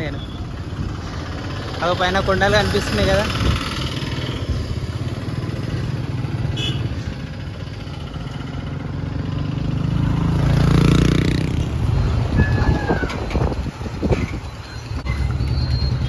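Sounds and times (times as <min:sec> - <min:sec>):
vehicle engine rumble passing: 0:00.4 - 0:16.0.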